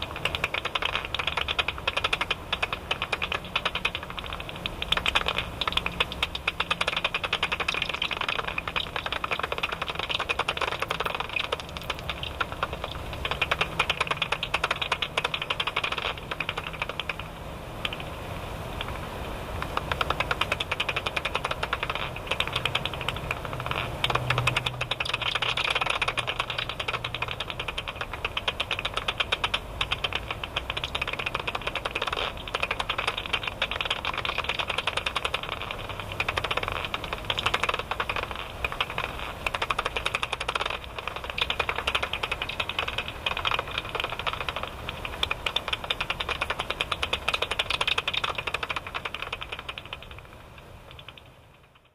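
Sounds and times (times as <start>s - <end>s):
bat echolocation clicks: 0.0s - 18.2s, 18.8s - 51.9s.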